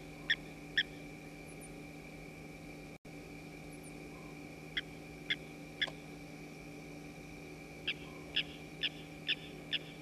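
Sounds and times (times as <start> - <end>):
low hum: 0.0 - 10.0
steady high whine: 0.0 - 10.0.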